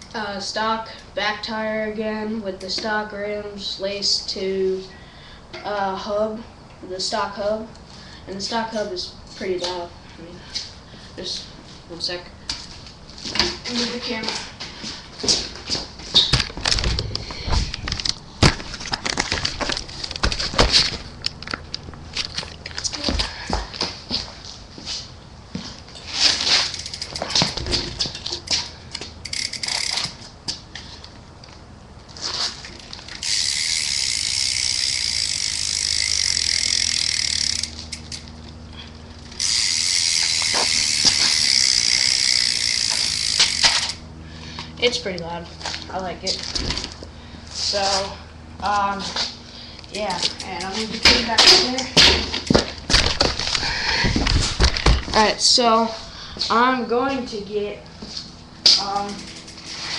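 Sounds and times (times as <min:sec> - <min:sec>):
bike hub freewheeling buzz: 0:06.6 - 0:55.7, 0:57.4 - 0:59.9.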